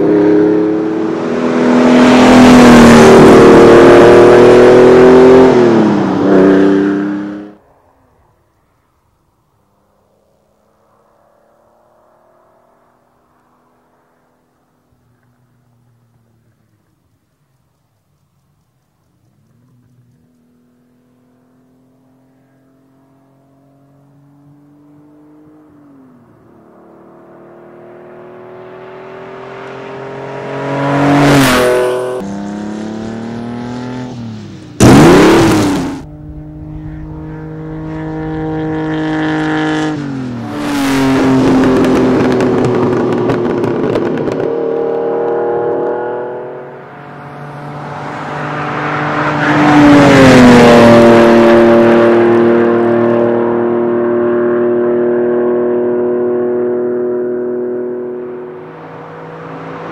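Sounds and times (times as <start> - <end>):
sports car accelerating and passing: 0.0 - 8.3, 9.6 - 16.8, 19.2 - 59.9.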